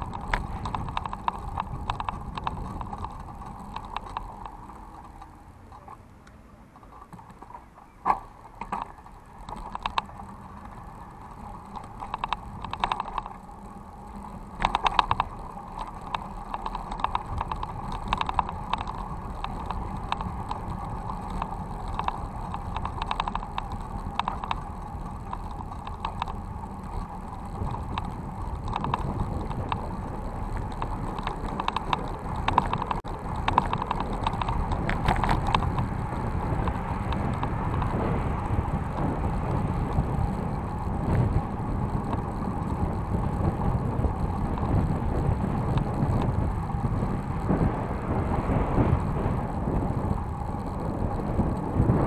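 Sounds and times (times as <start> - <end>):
bicycle rattling and clicking: 0.0 - 52.0
tyre and wind rumble: 0.0 - 52.0.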